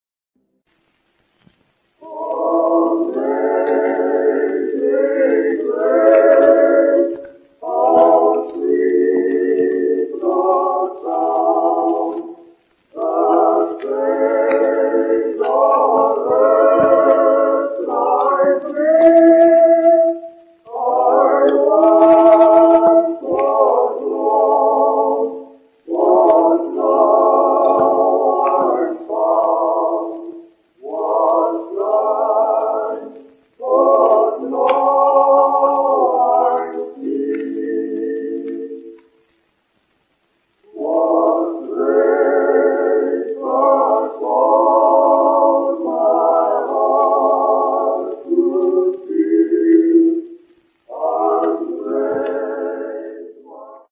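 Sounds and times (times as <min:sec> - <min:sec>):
choir singing sustained chords: 0:02.0 - 0:39.5, 0:40.6 - 0:53.9.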